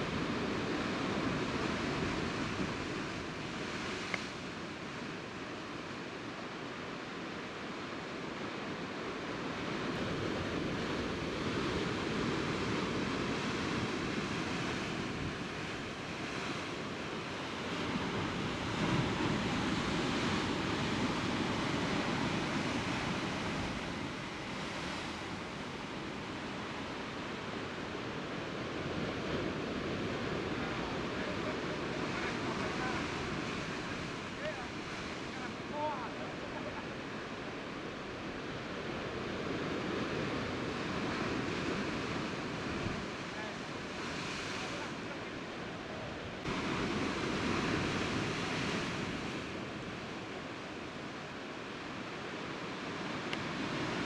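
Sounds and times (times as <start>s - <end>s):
sea surf on rocky shore: 0.0s - 54.0s.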